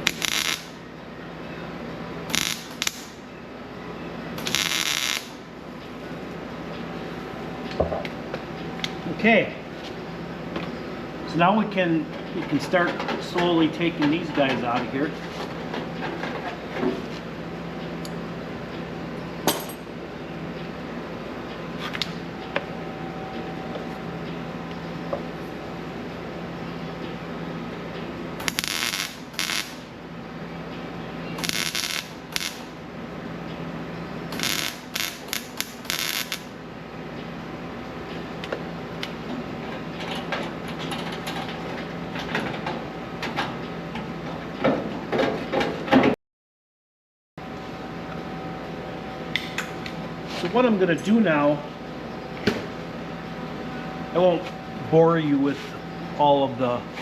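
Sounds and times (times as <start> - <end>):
steady low hum: 0.0 - 45.2, 47.4 - 57.0.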